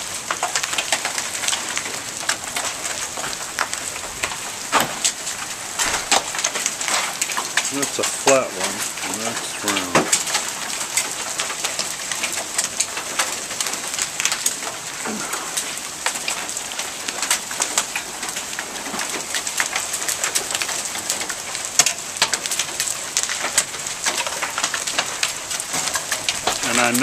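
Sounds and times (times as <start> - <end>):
raindrops ticking on hard surfaces: 0.0 - 27.0
steady rain falling: 0.0 - 27.0.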